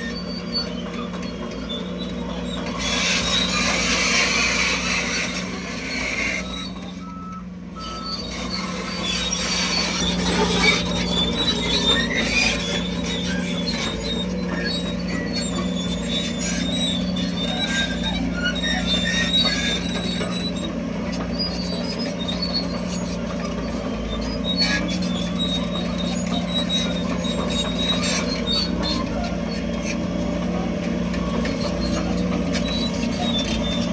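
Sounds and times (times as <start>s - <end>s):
diesel engine drone: 0.0s - 33.9s
steel tracks squealing and grinding: 0.0s - 33.9s.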